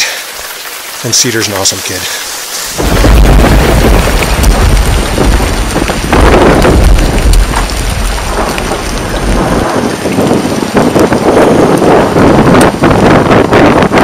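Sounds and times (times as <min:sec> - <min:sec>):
raindrops ticking: 0:00.0 - 0:13.9
heavy rain: 0:00.0 - 0:14.0
thunder rumbling: 0:02.6 - 0:14.0.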